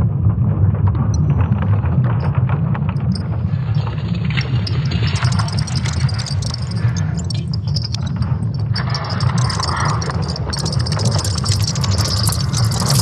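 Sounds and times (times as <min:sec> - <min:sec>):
deep rumble with crackles: 0:00.0 - 0:13.0.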